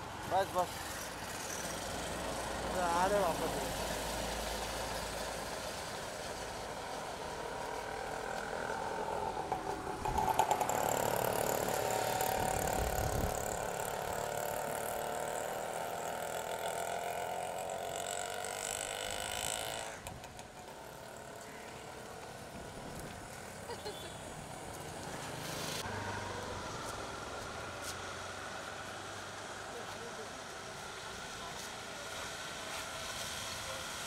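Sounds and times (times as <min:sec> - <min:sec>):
road traffic passing: 0:00.0 - 0:34.0.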